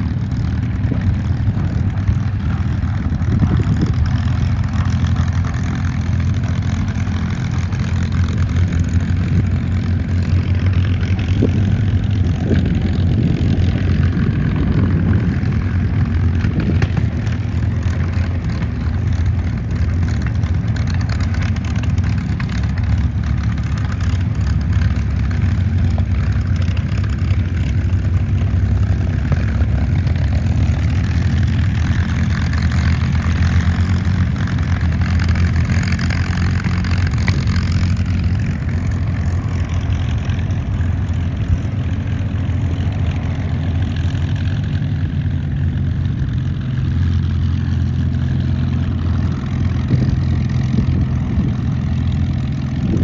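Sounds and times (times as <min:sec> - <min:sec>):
piston aircraft engine droning: 0:00.0 - 0:53.0.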